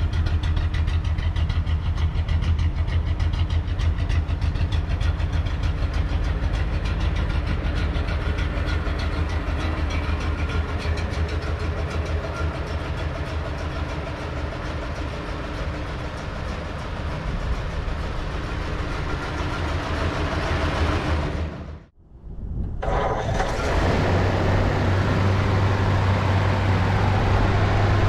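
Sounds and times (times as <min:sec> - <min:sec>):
engine idling: 0:00.0 - 0:22.0, 0:22.8 - 0:28.0.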